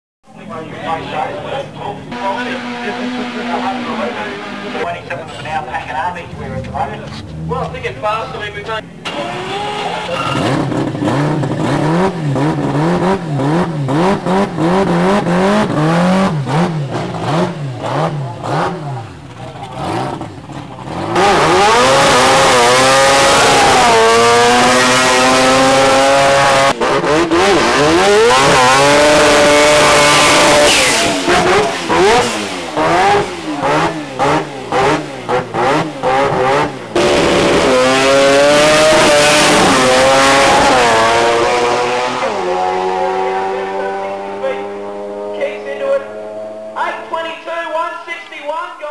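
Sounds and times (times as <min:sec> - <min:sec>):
rotary engine revving: 0:00.9 - 0:04.9, 0:09.0 - 0:46.8.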